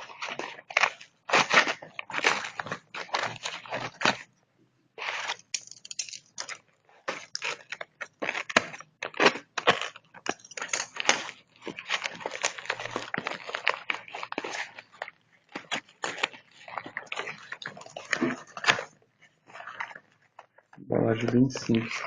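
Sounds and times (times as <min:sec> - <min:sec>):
packaging tearing and crinkling: 0:00.0 - 0:04.3, 0:05.0 - 0:20.5, 0:21.2 - 0:22.0.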